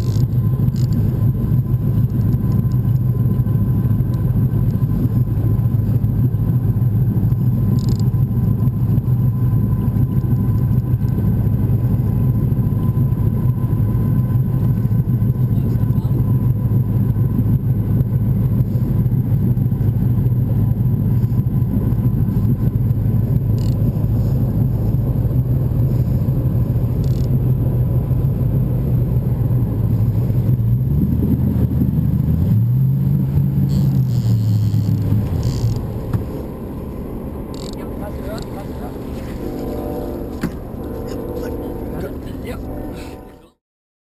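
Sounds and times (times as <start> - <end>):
boat motor running: 0.0 - 43.6.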